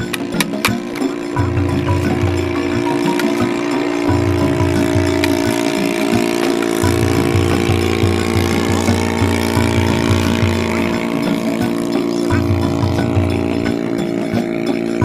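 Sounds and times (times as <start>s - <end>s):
droning chord: 0.0s - 15.0s
pulsing bass beat: 0.0s - 15.0s.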